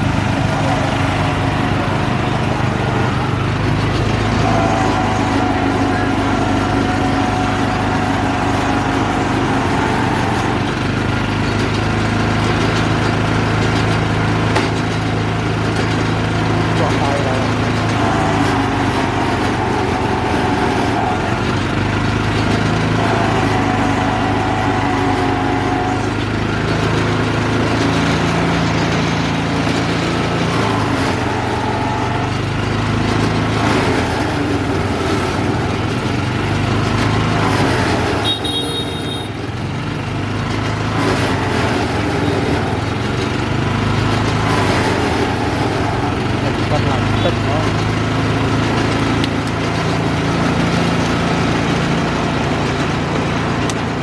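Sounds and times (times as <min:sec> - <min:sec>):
faint voices: 0:00.0 - 0:38.2, 0:44.1 - 0:54.0
market background: 0:00.0 - 0:54.0
small engine running: 0:00.0 - 0:54.0.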